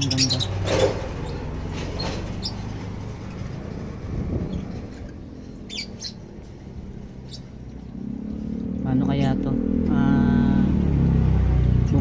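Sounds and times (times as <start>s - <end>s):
lovebirds chirping: 0.0s - 10.4s
low rumble: 0.6s - 12.0s.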